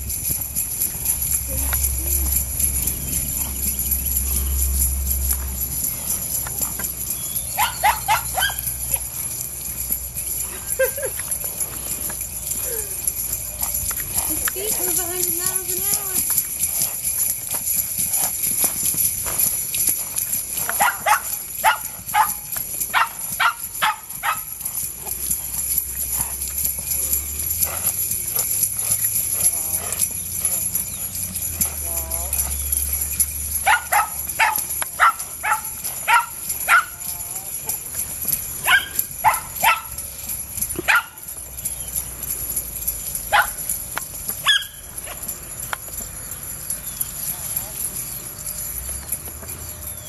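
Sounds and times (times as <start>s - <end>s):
bells jingling: 0.0s - 50.0s
horse hoofbeats on turf: 0.0s - 50.0s.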